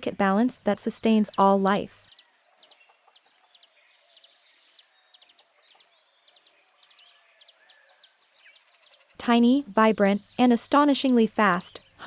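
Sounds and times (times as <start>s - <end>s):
faint bird chirps: 0.9s - 12.0s
insect trilling: 0.9s - 12.0s.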